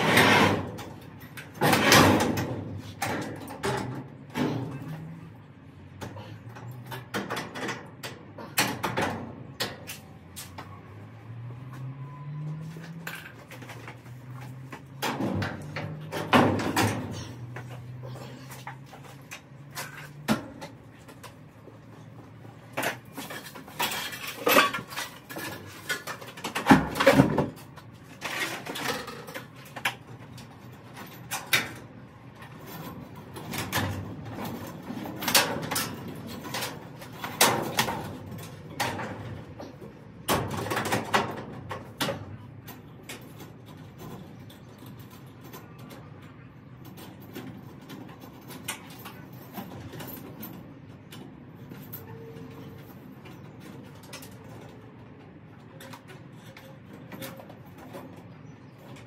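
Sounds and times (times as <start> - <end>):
metal clanks and rattles: 0.0 - 10.2, 12.5 - 59.0.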